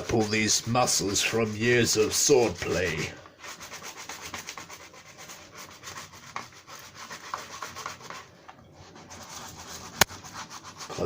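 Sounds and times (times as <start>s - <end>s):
scrubbing on plastic: 0.0s - 11.0s.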